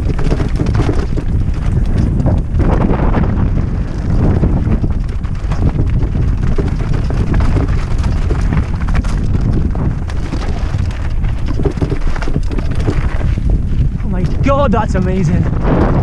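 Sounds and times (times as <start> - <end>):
bike tyres rolling over gravel: 0.0 - 16.0
small rattles and clicks: 0.0 - 16.0
wind buffeting microphone: 0.0 - 16.0.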